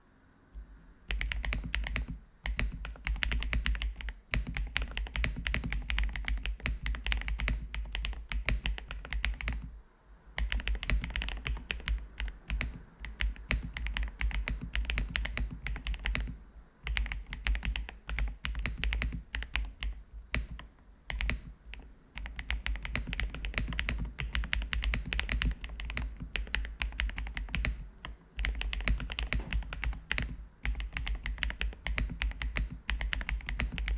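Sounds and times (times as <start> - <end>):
mechanical keyboard typing: 1.0 - 9.8, 10.4 - 33.9.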